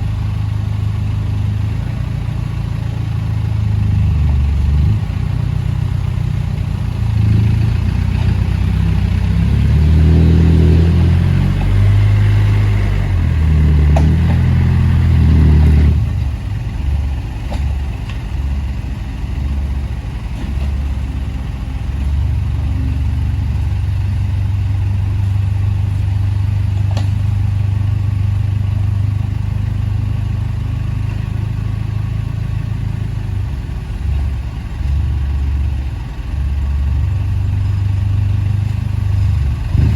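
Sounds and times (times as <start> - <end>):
diesel engine revving under load: 0.0 - 39.9.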